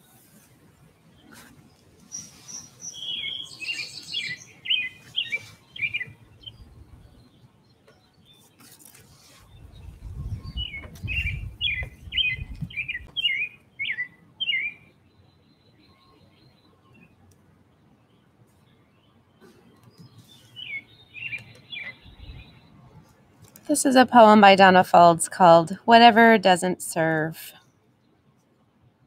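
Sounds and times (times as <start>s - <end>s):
songbird chirping: 1.0s - 27.3s.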